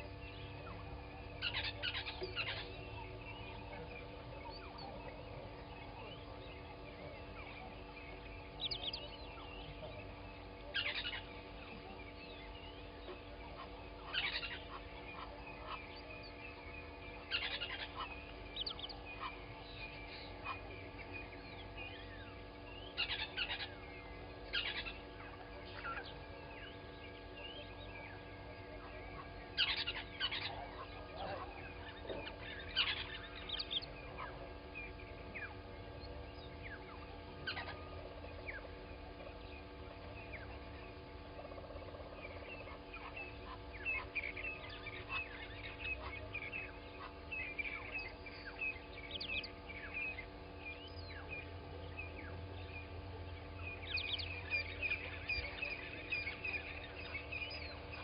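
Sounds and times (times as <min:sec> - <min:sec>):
birds calling and chirping: 0:00.0 - 0:58.0
faint steady hum: 0:00.0 - 0:58.0.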